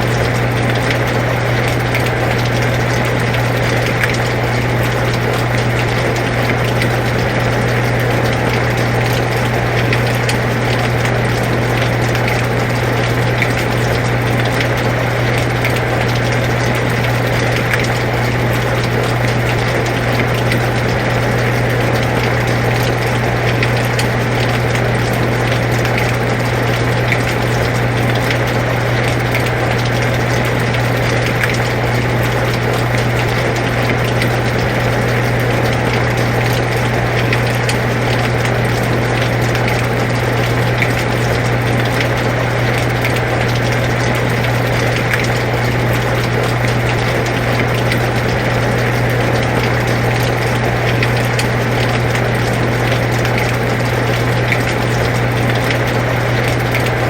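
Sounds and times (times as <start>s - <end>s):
air conditioner humming: 0.0s - 57.0s
rain falling: 0.0s - 57.0s.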